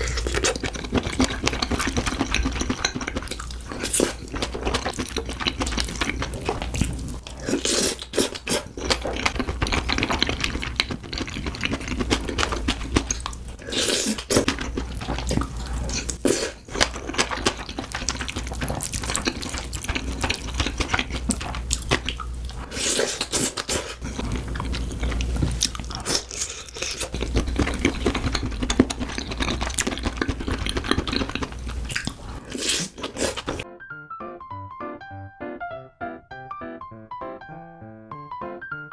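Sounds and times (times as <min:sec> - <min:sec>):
person chewing and crunching food: 0:00.0 - 0:33.6.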